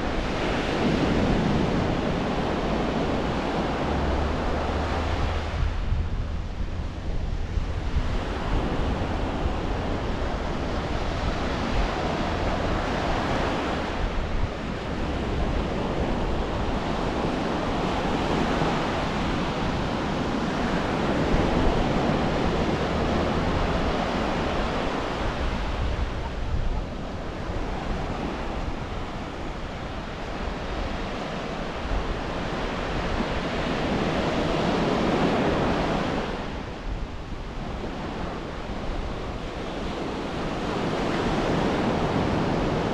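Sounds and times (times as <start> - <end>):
surf breaking on beach: 0.0 - 42.9
wind rumble on microphone: 0.0 - 42.9.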